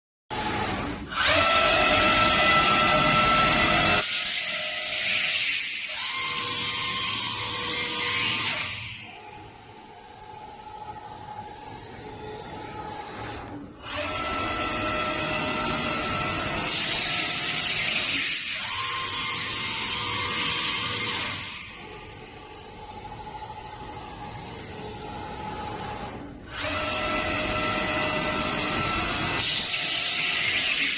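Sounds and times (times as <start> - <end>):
router spindle whine: 0.4 - 30.9.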